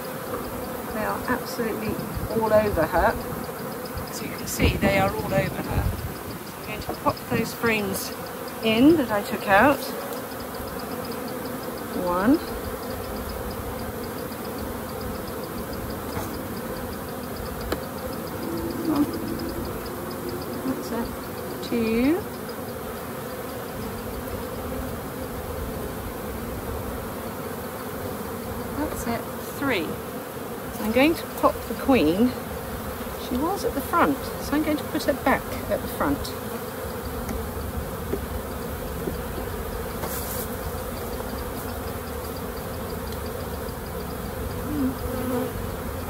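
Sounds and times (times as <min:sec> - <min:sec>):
honeybees buzzing: 0:00.0 - 0:46.0
rising bee buzz: 0:00.0 - 0:46.0.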